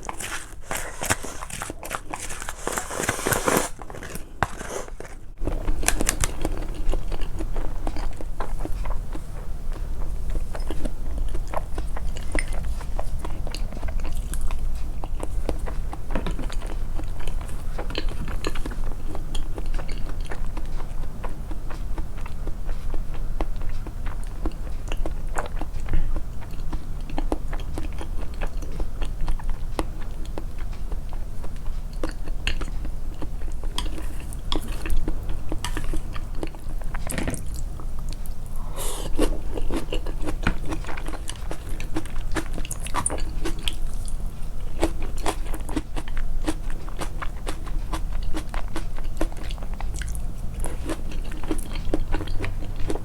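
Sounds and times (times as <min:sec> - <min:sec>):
person chewing food: 0:00.0 - 0:53.0.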